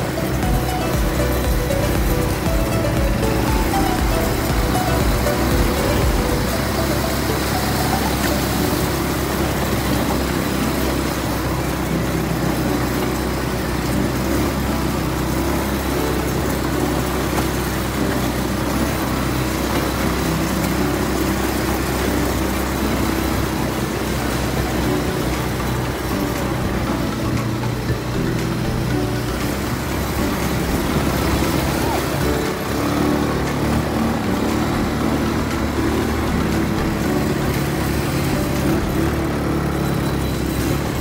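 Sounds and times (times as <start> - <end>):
atv engines running: 0.0 - 41.0.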